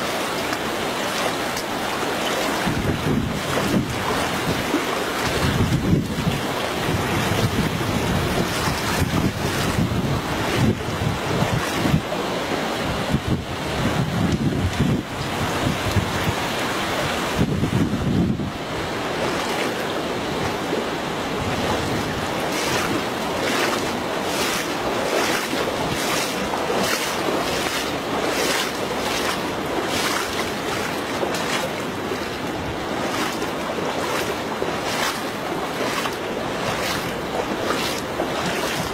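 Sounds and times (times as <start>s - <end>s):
legs splashing through water: 0.0s - 17.4s, 18.5s - 38.9s
wind buffeting microphone: 2.5s - 19.5s, 20.2s - 38.9s.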